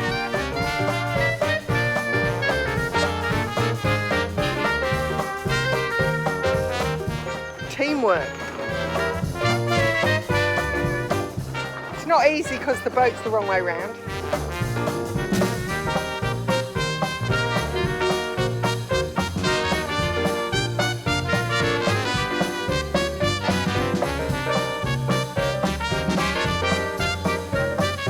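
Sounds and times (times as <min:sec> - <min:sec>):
trumpet and trombone: 0:00.0 - 0:28.0
upbeat swing music: 0:00.0 - 0:28.0
walking bass: 0:00.0 - 0:28.0.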